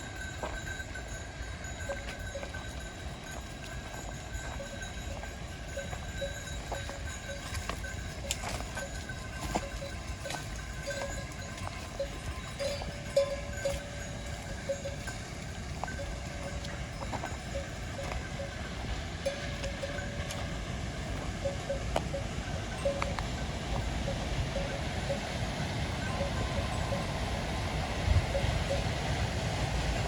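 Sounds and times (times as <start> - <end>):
livestock bells clinking: 0.0 - 30.0
low outdoor rumble: 0.0 - 30.0.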